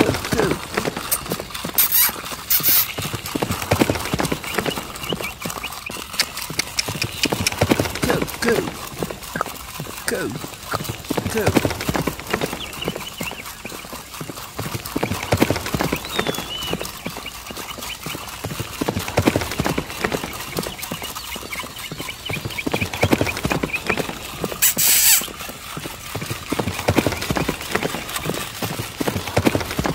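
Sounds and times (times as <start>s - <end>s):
toy horse clip-clop hoofbeats: 0.0s - 29.9s.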